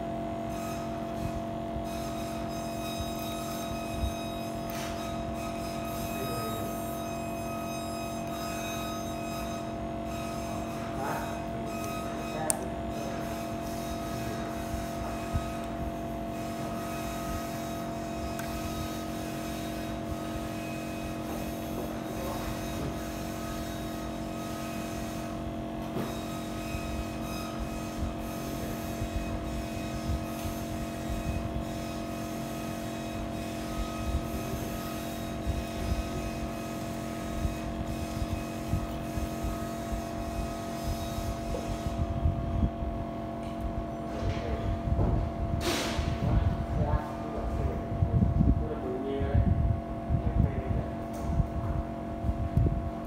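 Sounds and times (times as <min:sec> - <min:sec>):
steady machine hum: 0:00.0 - 0:53.0.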